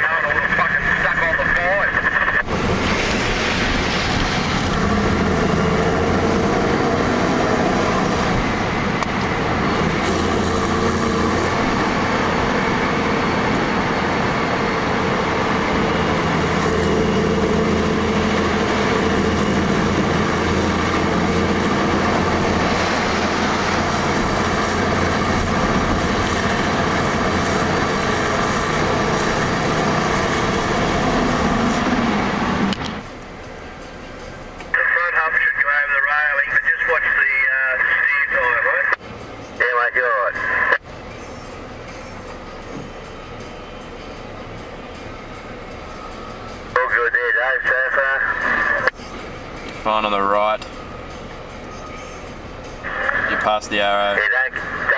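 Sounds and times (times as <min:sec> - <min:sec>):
road noise: 0:00.0 - 0:54.9
truck engine running under load: 0:00.2 - 0:54.9.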